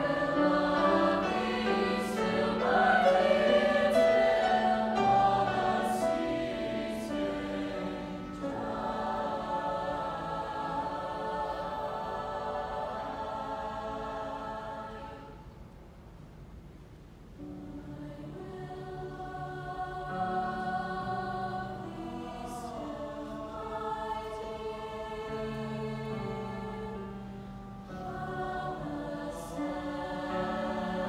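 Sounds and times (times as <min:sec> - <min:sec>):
mixed choir singing: 0:00.0 - 0:15.5, 0:17.6 - 0:31.0.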